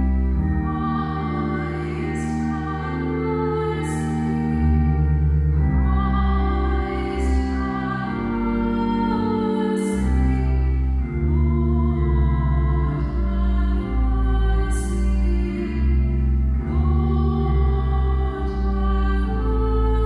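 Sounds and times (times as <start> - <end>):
held organ-like chords: 0.0 - 20.0
sacred singing: 0.0 - 20.0.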